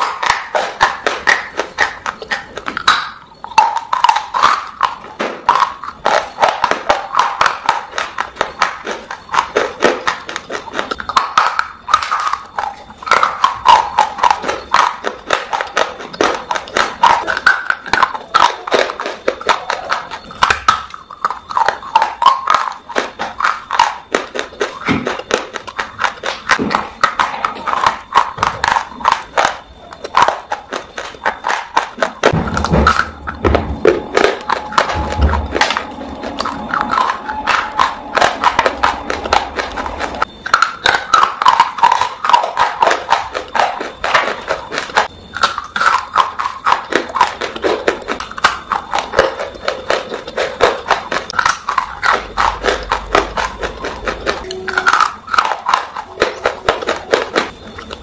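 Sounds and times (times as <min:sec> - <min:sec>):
chewing hard clay crunches: 0:00.0 - 0:58.0.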